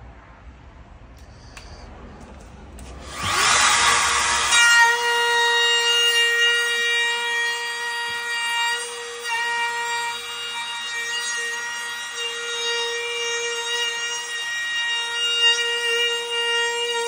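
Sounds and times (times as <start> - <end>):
power tool cutting with high whine: 2.8 - 17.0.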